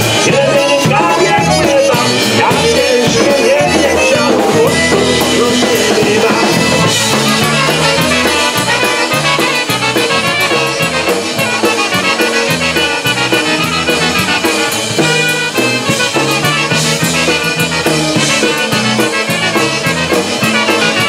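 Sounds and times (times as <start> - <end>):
drum kit steady beat: 0.0 - 21.0
low bass notes: 0.0 - 21.0
trumpets playing melody: 0.0 - 21.0.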